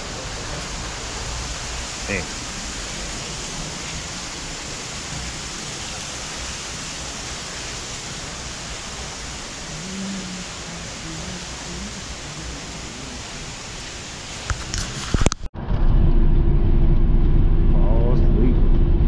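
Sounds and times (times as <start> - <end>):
running water rushing: 0.0 - 15.4.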